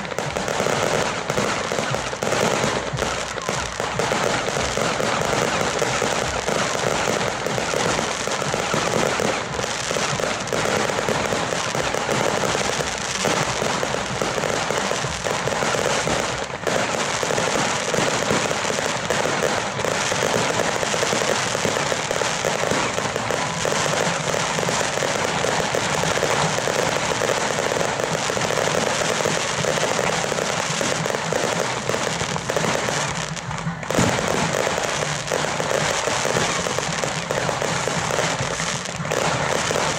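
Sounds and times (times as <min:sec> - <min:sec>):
fireworks crackling and popping: 0:00.0 - 0:39.9
loud firework bang: 0:00.0 - 0:39.9.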